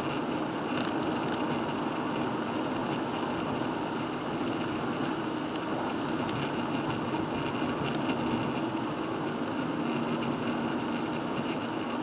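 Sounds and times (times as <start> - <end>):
low car cabin hum: 0.0 - 12.0.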